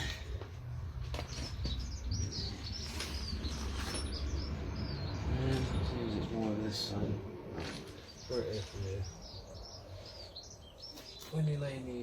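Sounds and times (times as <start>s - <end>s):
small bird chirping: 1.2s - 12.0s.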